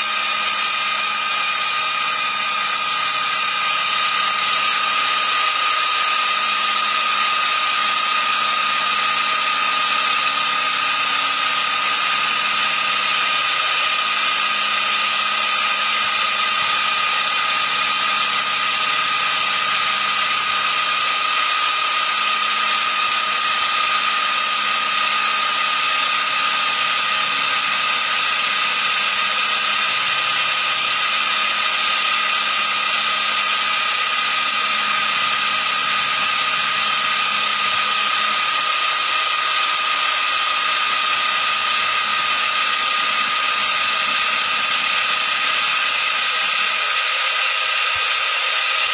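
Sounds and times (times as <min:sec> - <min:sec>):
milling machine spindle whine: 0:00.0 - 0:48.9.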